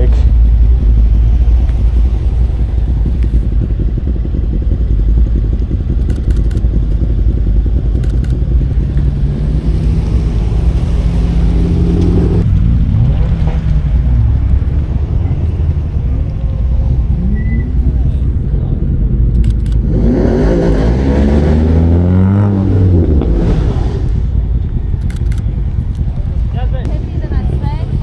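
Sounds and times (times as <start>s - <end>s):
car engine and exhaust: 0.0s - 28.0s.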